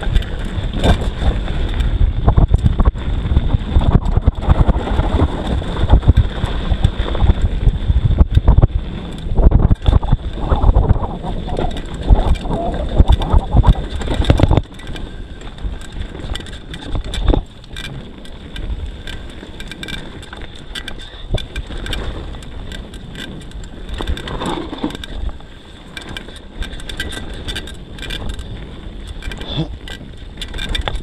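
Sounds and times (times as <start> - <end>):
tyre rumble: 0.0 - 25.6
wind on microphone: 0.0 - 25.6, 26.2 - 31.0
bike clicks and knocks: 0.0 - 31.0.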